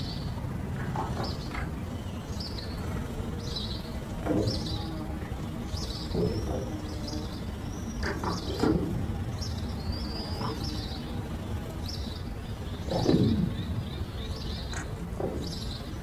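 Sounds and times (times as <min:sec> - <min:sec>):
low background rumble: 0:00.0 - 0:16.0
small birds chirping and whistling: 0:01.2 - 0:16.0.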